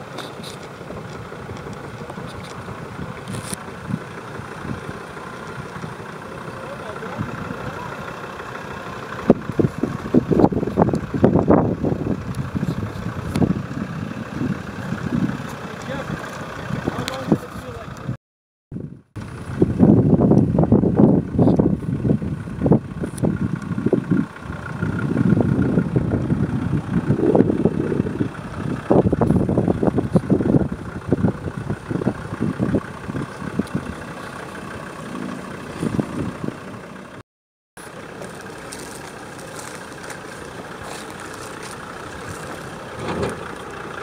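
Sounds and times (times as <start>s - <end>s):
off-road vehicle engine under load: 0.0s - 37.2s, 37.8s - 44.0s.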